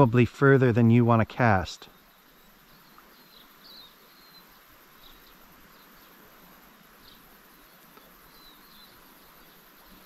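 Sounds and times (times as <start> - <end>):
small birds chirping: 0.0 - 10.0
stream hiss: 0.0 - 10.0.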